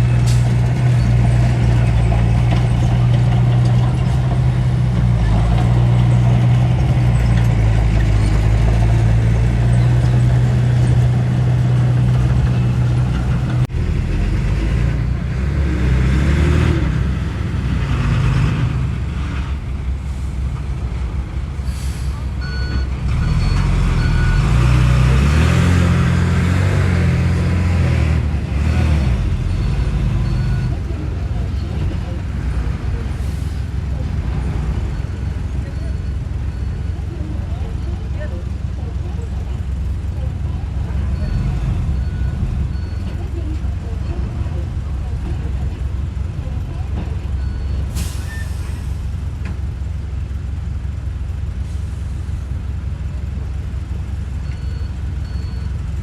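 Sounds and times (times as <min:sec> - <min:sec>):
diesel earthmoving machinery running: 0:00.0 - 0:56.0.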